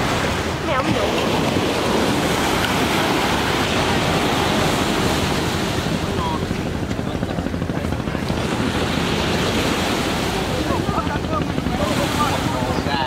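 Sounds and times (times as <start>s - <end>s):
small waves breaking: 0.0s - 6.9s, 7.5s - 13.0s.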